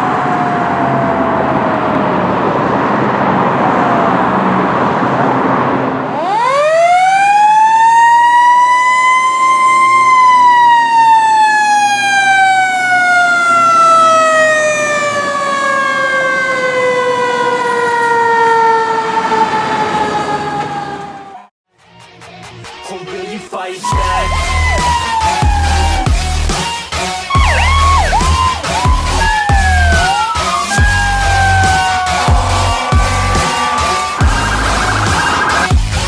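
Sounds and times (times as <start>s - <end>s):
mechanical siren wailing: 0.0s - 4.7s, 6.1s - 21.5s, 23.9s - 26.6s, 27.3s - 36.0s
truck engine: 0.0s - 6.8s, 8.9s - 21.5s, 23.9s - 36.0s.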